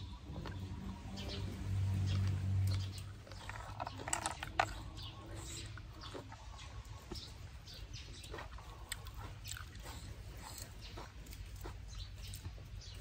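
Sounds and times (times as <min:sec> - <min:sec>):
chewing close up: 0:00.2 - 0:13.0.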